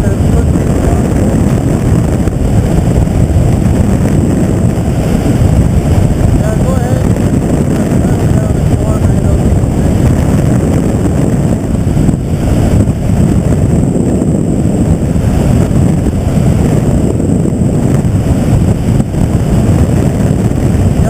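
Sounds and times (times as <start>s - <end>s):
engine noise: 0.0s - 21.0s
wind buffeting microphone: 0.0s - 21.0s.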